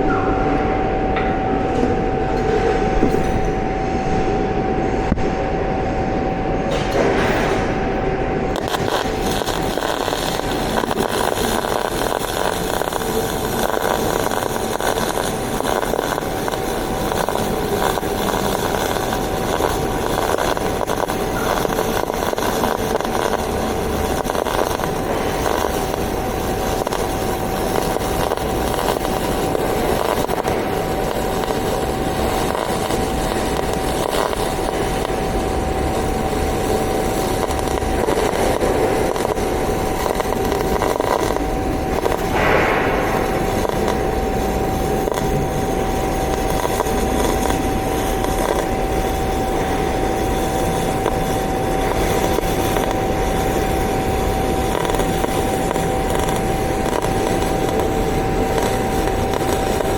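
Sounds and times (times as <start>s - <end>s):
welding arc crackling sizzle: 0.0s - 59.9s.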